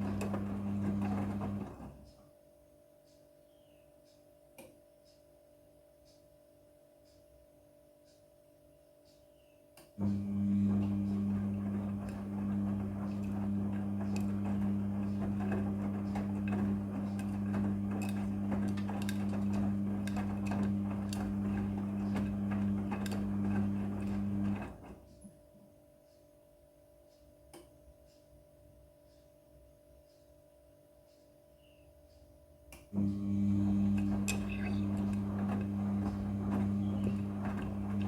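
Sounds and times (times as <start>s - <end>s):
washing machine electric hum: 0.0s - 3.0s, 9.9s - 38.0s.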